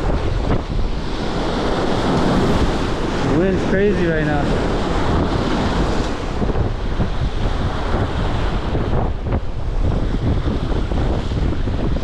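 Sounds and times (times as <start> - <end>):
heavy lake waves: 0.0 - 12.0
strong wind on microphone: 0.0 - 12.0.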